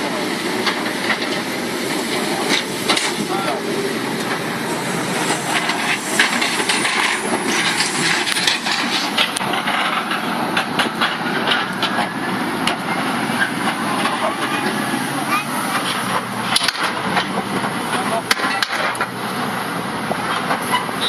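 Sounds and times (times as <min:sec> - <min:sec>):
excavator rumbling: 0:00.0 - 0:21.0.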